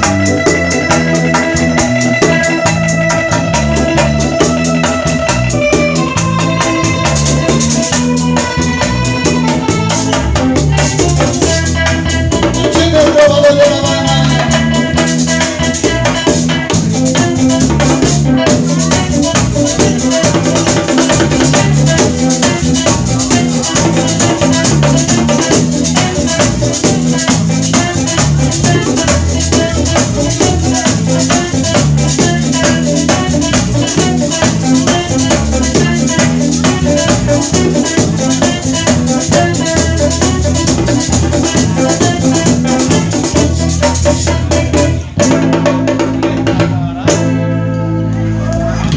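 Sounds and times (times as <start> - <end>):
bass guitar: 0.0 - 48.9
electric lead guitar picking: 0.0 - 48.9.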